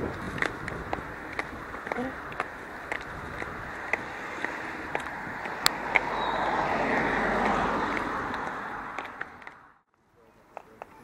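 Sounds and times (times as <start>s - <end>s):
vehicle passing: 0.0s - 9.9s
high heels clicking on asphalt: 0.0s - 11.0s.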